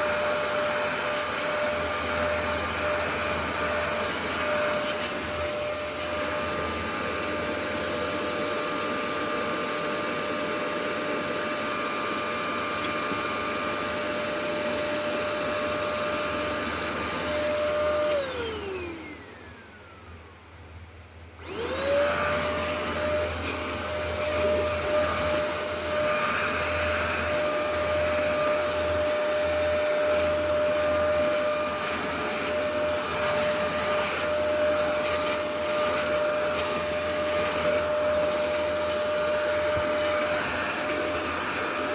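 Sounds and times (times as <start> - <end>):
vacuum cleaner motor whine: 0.0 - 41.9.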